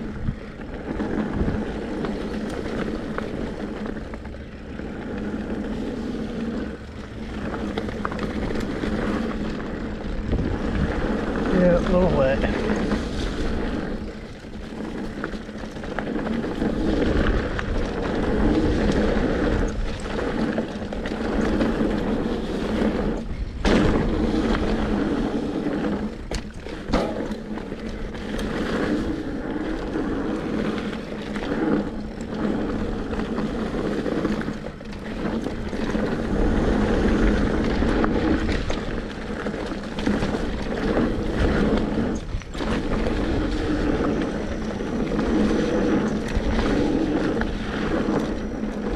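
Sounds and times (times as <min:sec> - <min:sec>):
bike knocks and rattles: 0:00.0 - 0:48.9
tyres rumbling on dirt: 0:00.0 - 0:48.9
wind on microphone: 0:00.0 - 0:48.9.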